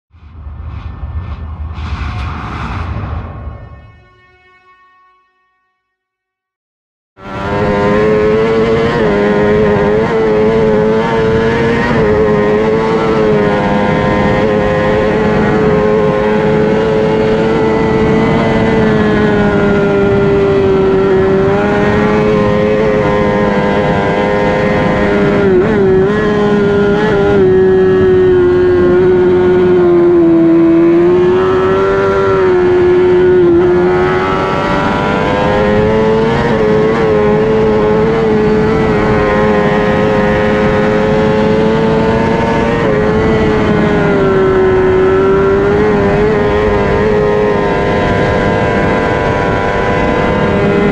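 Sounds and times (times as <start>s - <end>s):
motorcycle engine at high revs: 7.2s - 50.9s.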